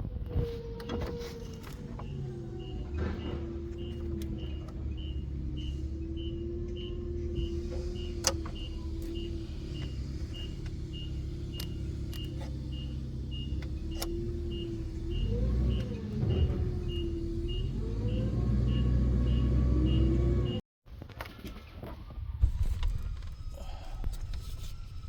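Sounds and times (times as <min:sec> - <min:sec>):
car engine idling and revving: 0:00.0 - 0:20.6, 0:21.2 - 0:25.0.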